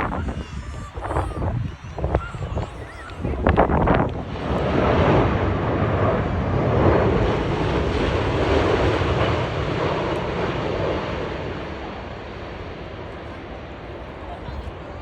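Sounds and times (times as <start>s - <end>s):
jet airliner flying past: 0.0s - 15.0s.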